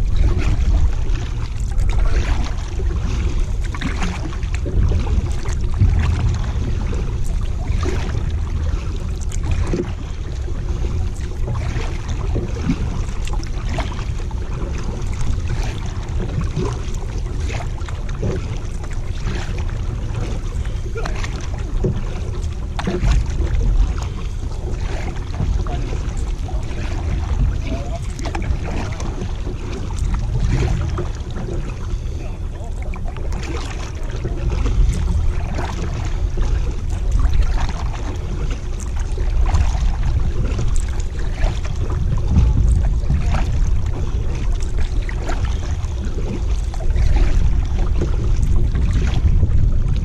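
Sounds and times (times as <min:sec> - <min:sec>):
paddle strokes splashing: 0:00.0 - 0:50.0
water lapping at hull: 0:00.0 - 0:50.0
wind rumble on microphone: 0:00.0 - 0:50.0.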